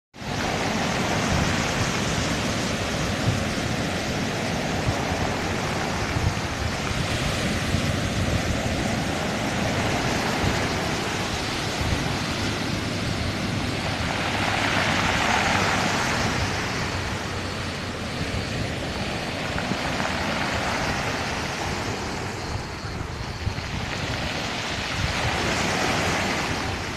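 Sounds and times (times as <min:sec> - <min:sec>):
waves washing up pebble beach: 0:00.2 - 0:26.9
wind on microphone: 0:00.2 - 0:26.9.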